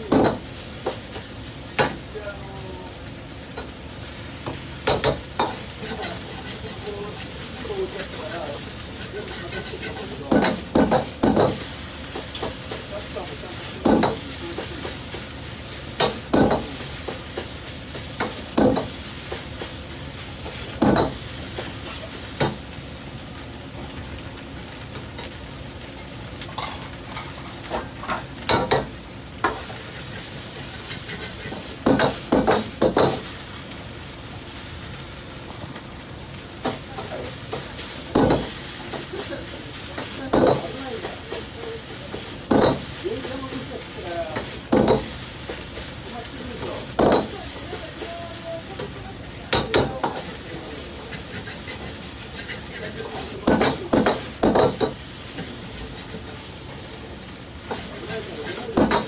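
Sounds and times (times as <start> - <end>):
rice sizzling in a wok: 0.0 - 59.0.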